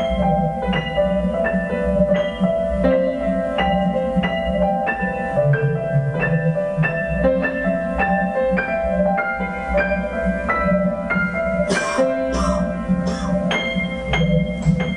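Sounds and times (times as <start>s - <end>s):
piano single notes: 0.0s - 14.9s.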